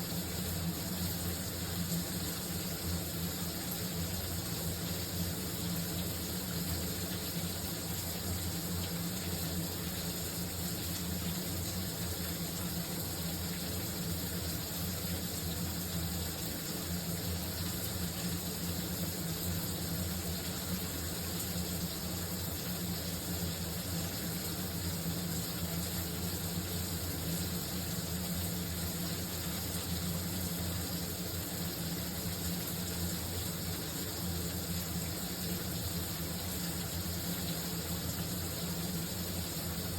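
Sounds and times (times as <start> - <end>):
shower running: 0.0 - 39.9.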